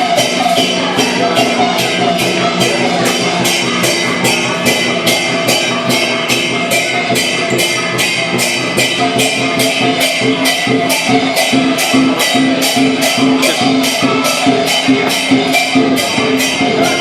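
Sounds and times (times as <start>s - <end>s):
cymbals clashing: 0.0s - 17.0s
large drum beating: 0.0s - 17.0s.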